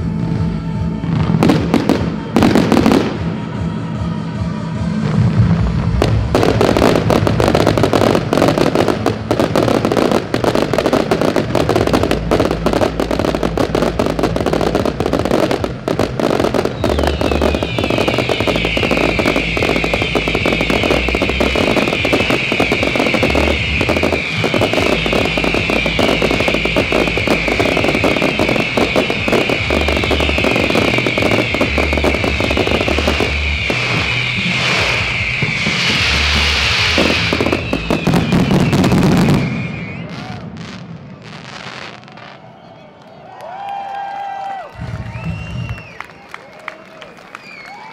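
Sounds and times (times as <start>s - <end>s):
fireworks crackling: 0.0s - 42.8s, 43.5s - 47.9s
falling firework whistles: 1.4s - 3.4s, 5.8s - 43.1s, 44.0s - 47.9s.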